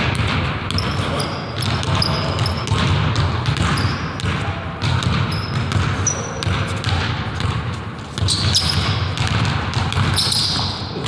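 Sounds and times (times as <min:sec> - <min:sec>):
basketball bouncing on wooden floor: 0:00.0 - 0:11.0
sneaker squeaks: 0:00.1 - 0:11.0.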